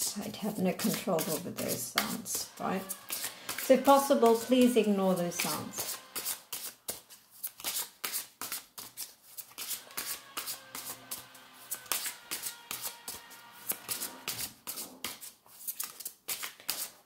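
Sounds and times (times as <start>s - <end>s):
cards being shuffled: 0.3s - 17.0s.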